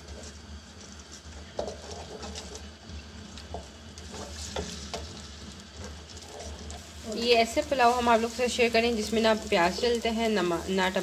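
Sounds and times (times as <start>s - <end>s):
spices sizzling in hot oil: 0.0s - 11.0s
wooden spoon scraping a pot: 0.0s - 11.0s.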